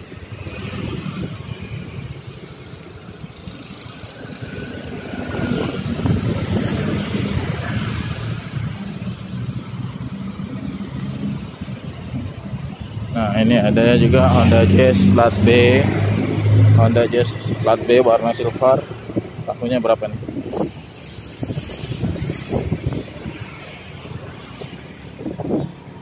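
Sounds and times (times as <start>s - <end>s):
scooters and cars passing: 0.0s - 26.0s.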